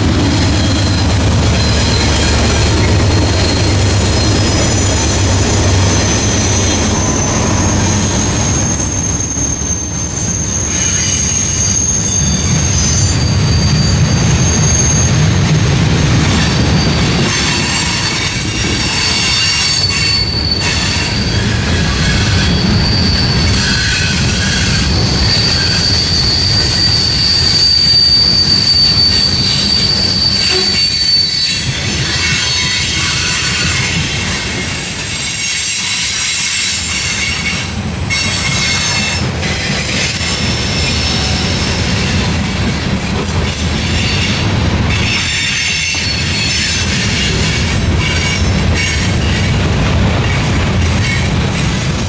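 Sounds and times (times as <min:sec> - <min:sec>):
diesel locomotives rumbling: 0:00.0 - 0:52.0
freight cars rolling: 0:00.0 - 0:52.0
high-pitched wheel squeal: 0:00.1 - 0:52.0.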